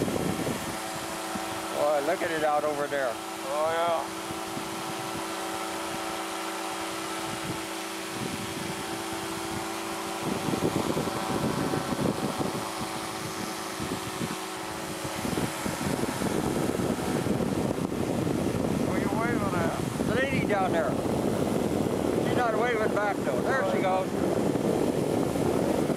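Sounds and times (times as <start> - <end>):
engine and propeller running: 0.0 - 25.9
wind buffeting microphone: 0.0 - 25.9.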